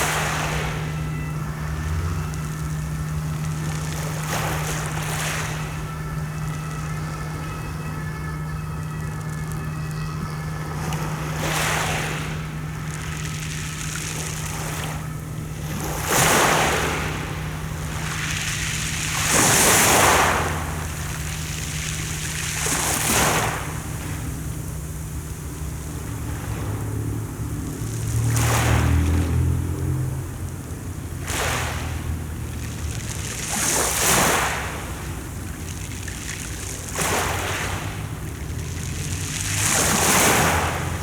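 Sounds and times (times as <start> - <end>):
sea waves washing ashore: 0.0 - 41.0
steady low hum: 0.0 - 41.0.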